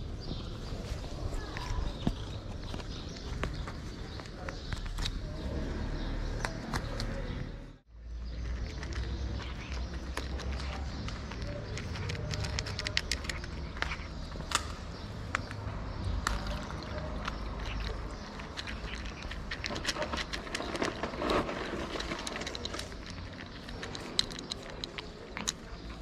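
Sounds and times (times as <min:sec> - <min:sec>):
kitten crunching kibble: 0:00.4 - 0:05.4, 0:08.3 - 0:26.0.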